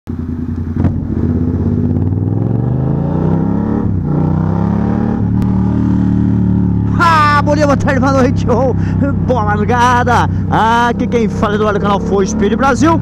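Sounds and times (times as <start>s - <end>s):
motorcycle engine accelerating: 0.1s - 13.0s.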